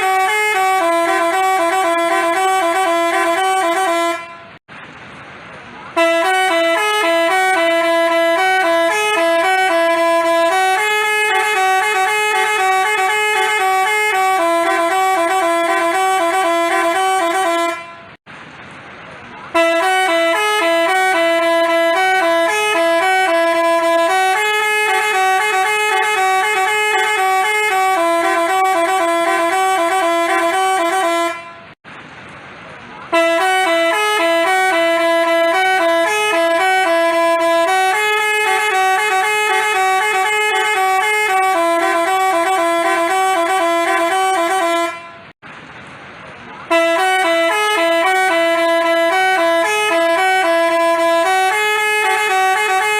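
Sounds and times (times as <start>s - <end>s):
multi-tone bus horn melody: 0.0s - 4.6s, 5.9s - 18.2s, 19.5s - 31.8s, 33.1s - 45.4s, 46.6s - 52.9s.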